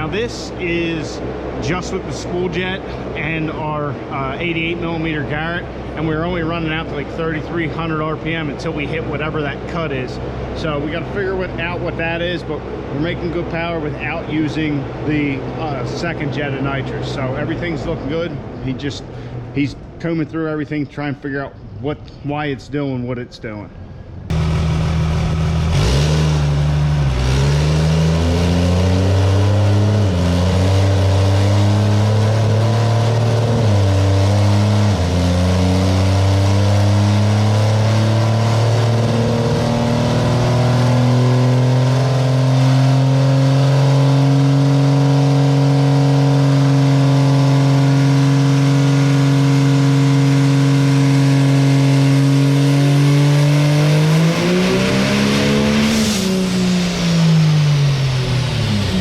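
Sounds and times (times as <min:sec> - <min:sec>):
diesel truck engine revving: 0:00.0 - 0:20.2, 0:24.2 - 0:59.0.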